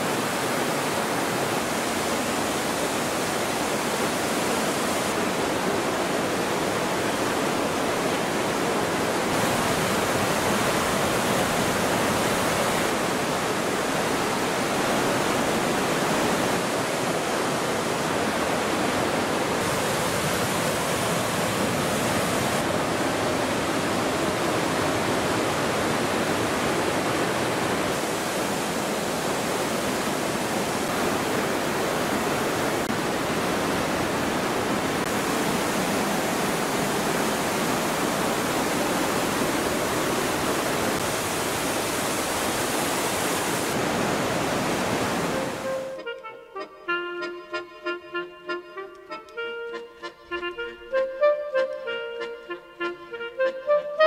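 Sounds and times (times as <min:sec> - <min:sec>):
river rushing over boulders: 0:00.0 - 0:46.0.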